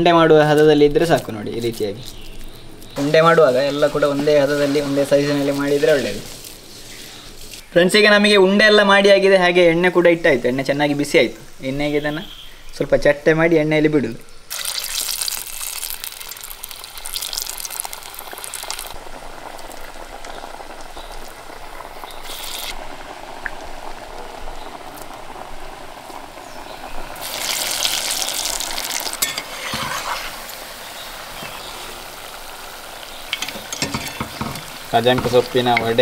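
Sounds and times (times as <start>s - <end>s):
food sizzling in hot oil: 0.0s - 12.8s, 14.5s - 36.0s.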